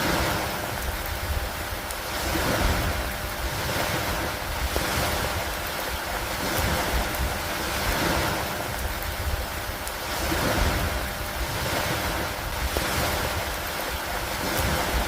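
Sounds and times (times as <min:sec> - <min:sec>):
rain on a wooden dock and water: 0:00.0 - 0:15.0.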